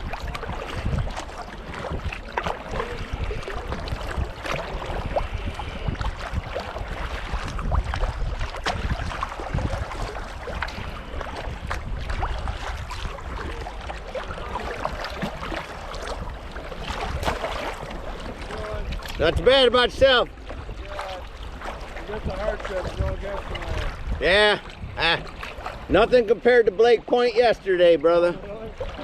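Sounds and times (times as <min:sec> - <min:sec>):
wind rumble on microphone: 0:00.0 - 0:26.3
kayak paddles splashing: 0:00.0 - 0:29.0
water lapping against hull: 0:00.0 - 0:29.0.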